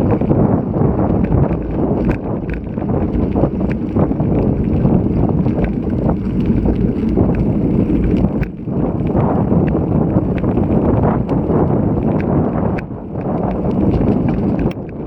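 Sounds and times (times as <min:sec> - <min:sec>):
small clicks and rattles: 0:00.0 - 0:15.0
wind buffeting microphone: 0:00.0 - 0:15.0.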